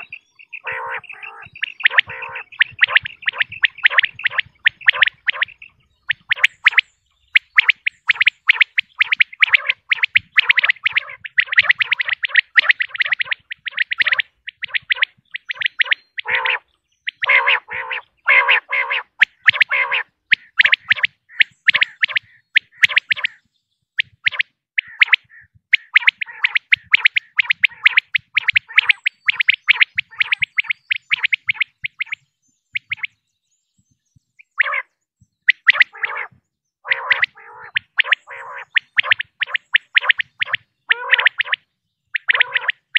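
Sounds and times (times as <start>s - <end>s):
harsh lower quail calls: 0.0s - 33.2s, 34.4s - 34.9s, 35.5s - 42.9s
quail chirping: 0.0s - 33.2s, 34.4s - 42.9s.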